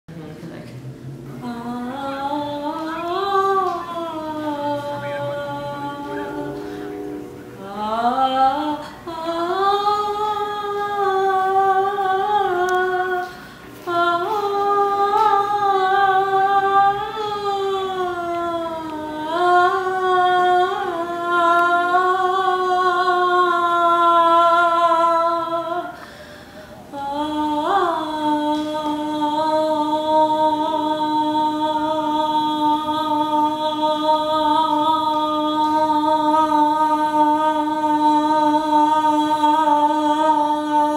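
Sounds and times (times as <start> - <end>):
person singing wordless long notes: 1.0 - 40.9.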